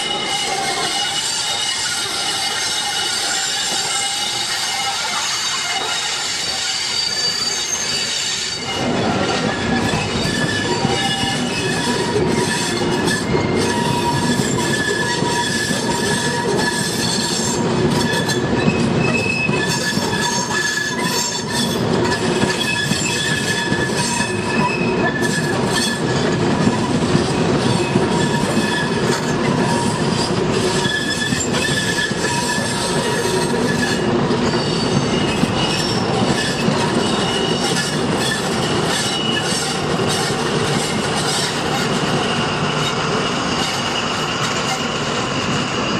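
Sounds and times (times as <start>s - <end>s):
train rumble: 0.0s - 45.9s
wheel flanges squealing on rails: 0.0s - 45.9s
wheels clicking on track: 0.0s - 45.9s.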